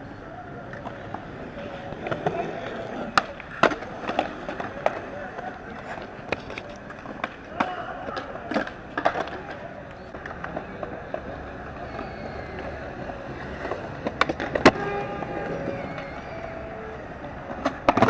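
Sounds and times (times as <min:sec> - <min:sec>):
skateboard clacks: 0:00.0 - 0:18.0
skateboard wheels rolling on concrete: 0:00.0 - 0:18.0.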